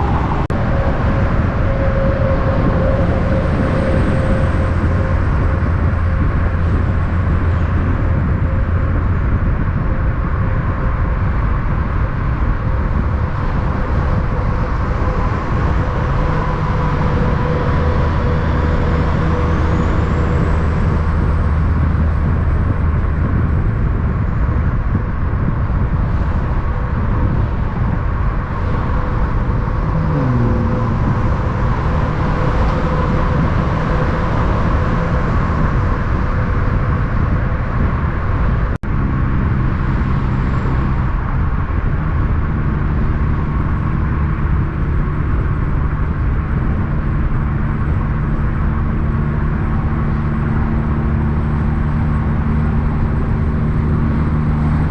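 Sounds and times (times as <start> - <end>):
heavy truck diesel engine: 0.0 - 54.9
road noise: 0.0 - 54.9.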